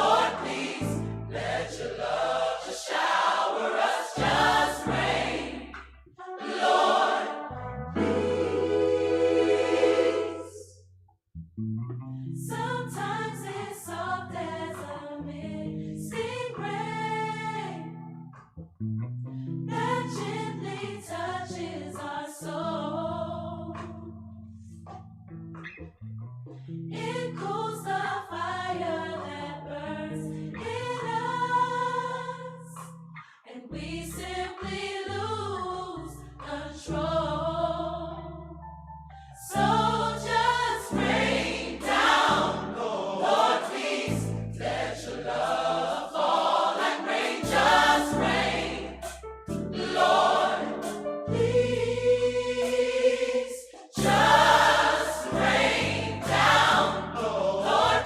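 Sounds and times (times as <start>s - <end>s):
choir singing gospel music: 0.0s - 10.7s, 12.5s - 18.0s, 19.7s - 24.1s, 26.9s - 38.6s, 39.4s - 58.0s.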